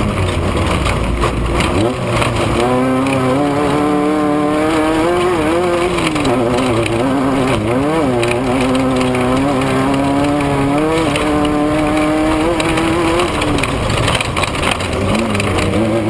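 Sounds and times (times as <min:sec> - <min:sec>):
constant rushing noise: 0:00.0 - 0:16.0
race vehicle engine revving: 0:00.0 - 0:16.0.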